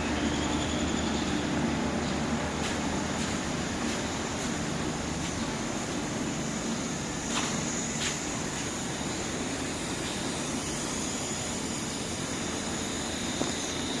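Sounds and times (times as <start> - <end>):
boiler roaring with whine: 0.0 - 14.0.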